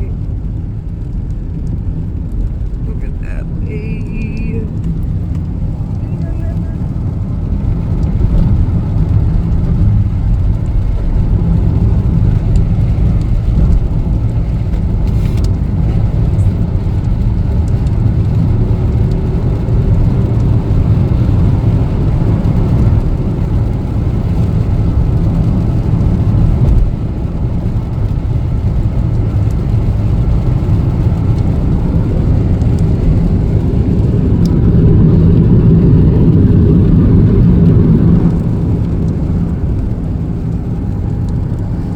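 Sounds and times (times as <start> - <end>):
road and engine noise in car: 0.0 - 41.9.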